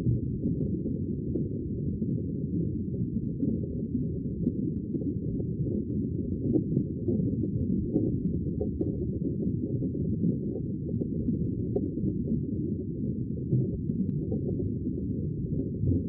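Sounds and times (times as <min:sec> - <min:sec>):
muffled rumble of sea water: 0:00.0 - 0:16.0.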